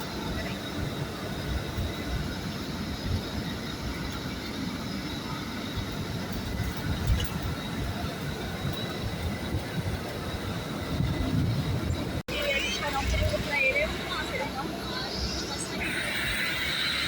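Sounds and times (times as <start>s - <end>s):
bus bumps: 0.0s - 16.0s
bus engine and road noise: 0.0s - 17.0s.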